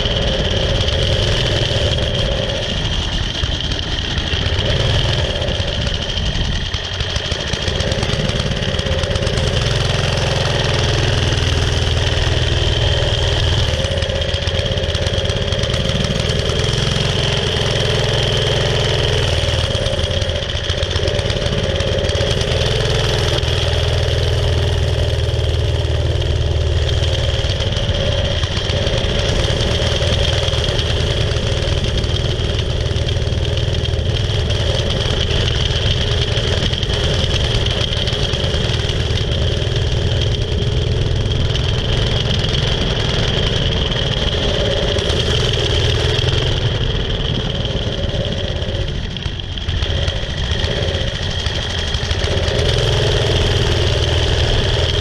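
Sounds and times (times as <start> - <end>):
small single-cylinder engine running: 0.0 - 55.0.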